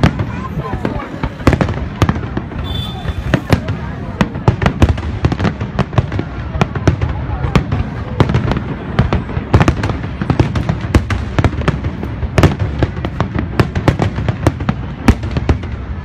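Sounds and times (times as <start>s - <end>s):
dense fireworks rumble: 0.0s - 16.0s
rapid firework bangs: 0.0s - 16.0s.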